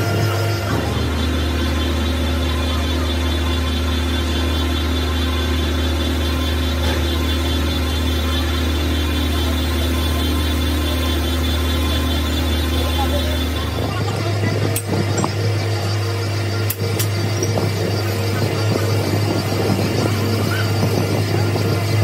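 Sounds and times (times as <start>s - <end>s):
grinding machine motor hum: 0.0s - 22.0s.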